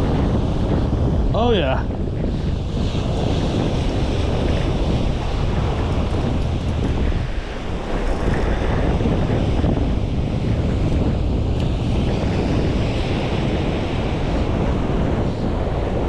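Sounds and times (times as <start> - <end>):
ocean surf breaking: 0.0 - 16.0
wind noise on microphone: 0.0 - 16.0.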